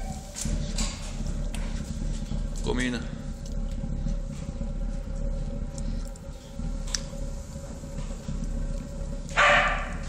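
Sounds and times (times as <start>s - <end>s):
faint steady hum: 0.0s - 10.0s
stove burning low rumble: 0.0s - 10.0s.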